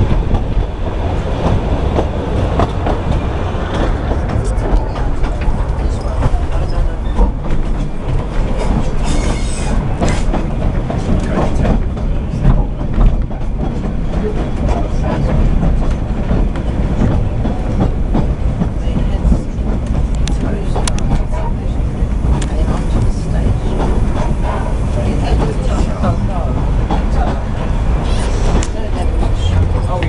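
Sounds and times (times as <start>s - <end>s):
clickety-clack of rail joints: 0.0s - 30.0s
train wheels rumbling on rail: 0.0s - 30.0s.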